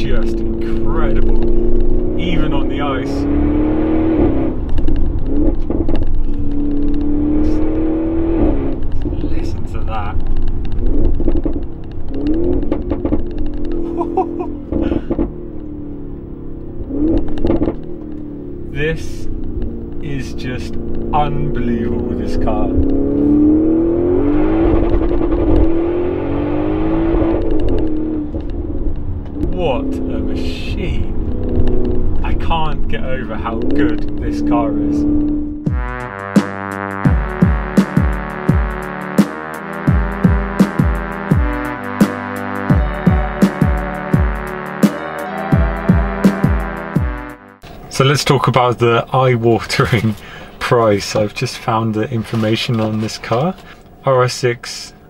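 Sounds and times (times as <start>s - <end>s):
exhaust pops and crackles: 0.0s - 45.0s, 45.8s - 54.8s
car engine accelerating: 0.0s - 54.1s.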